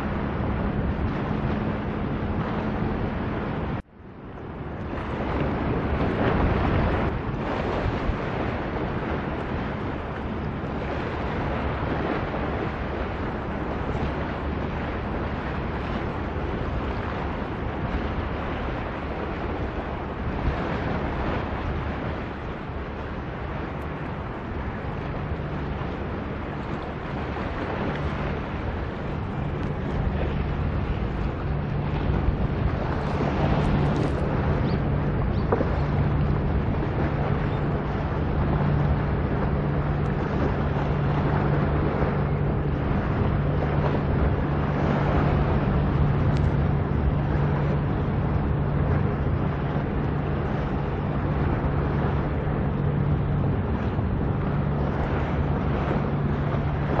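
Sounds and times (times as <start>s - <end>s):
low steady hum: 0.0s - 57.0s
sea water washing: 0.0s - 57.0s
wind buffeting microphone: 0.0s - 57.0s.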